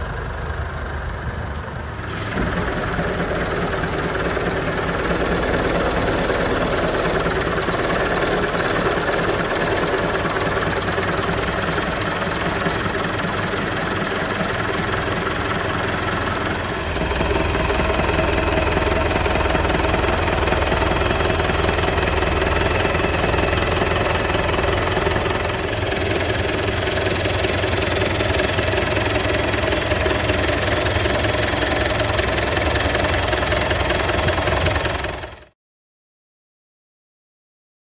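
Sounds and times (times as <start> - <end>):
diesel truck engine idling: 0.0 - 35.5.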